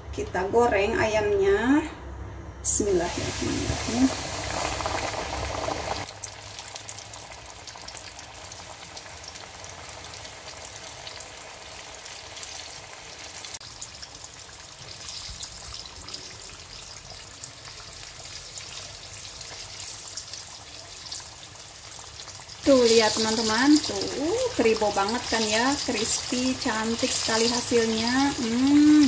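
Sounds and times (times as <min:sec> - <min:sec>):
chicken deep-frying in oil: 0:02.8 - 0:29.0.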